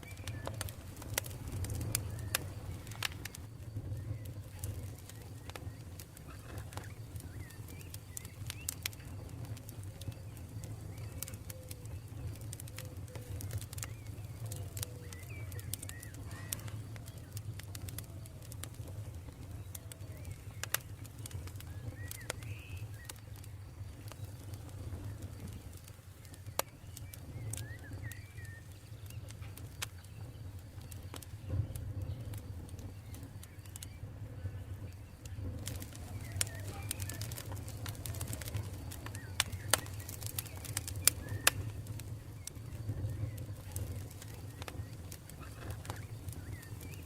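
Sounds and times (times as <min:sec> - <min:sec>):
birds chirping: 0:00.0 - 0:47.0
campfire crackling and popping: 0:00.0 - 0:47.0.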